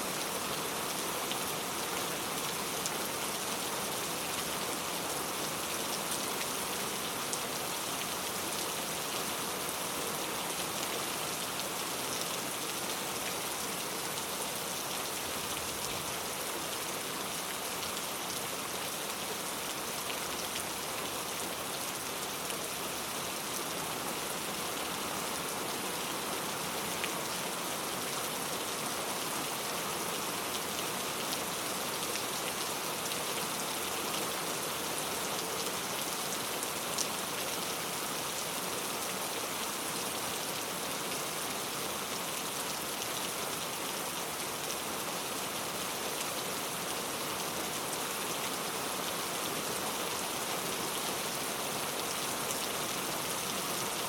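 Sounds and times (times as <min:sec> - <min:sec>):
very heavy rain: 0:00.0 - 0:54.0.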